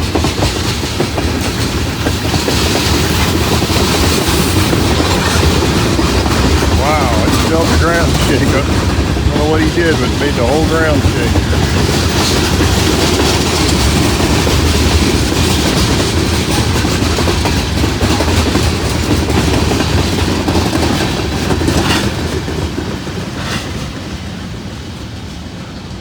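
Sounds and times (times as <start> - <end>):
freight train rumbling past: 0.0 - 26.0
wheels clacking over rail joints: 0.0 - 26.0.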